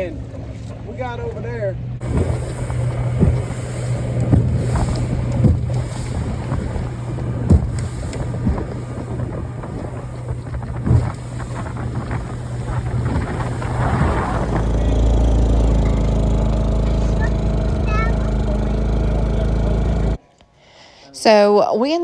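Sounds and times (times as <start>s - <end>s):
motorboat engine running: 0.0s - 20.2s
wind buffeting microphone: 1.8s - 20.2s
hull thumping on waves: 2.0s - 20.2s.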